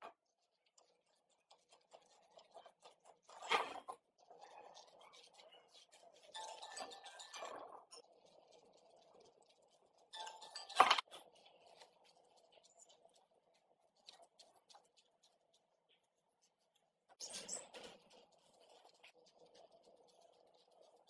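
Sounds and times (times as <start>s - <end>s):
faint scraping and taps: 0.0s - 21.0s.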